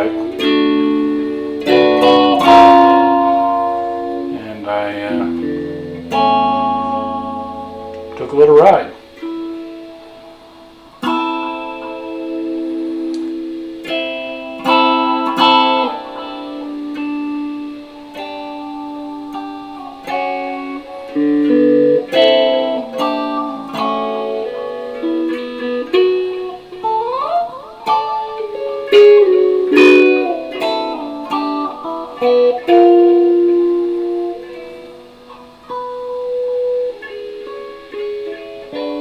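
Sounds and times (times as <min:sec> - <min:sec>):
electric guitar playing: 0:00.0 - 0:39.0.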